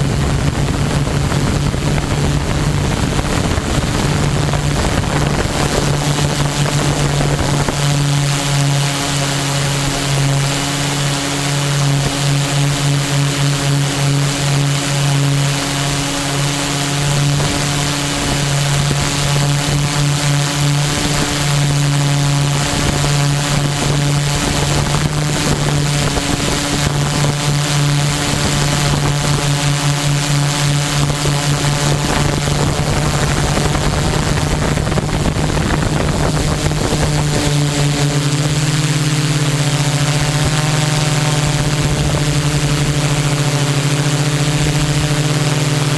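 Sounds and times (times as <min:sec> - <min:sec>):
drone motors and propellers droning: 0:00.0 - 0:45.9.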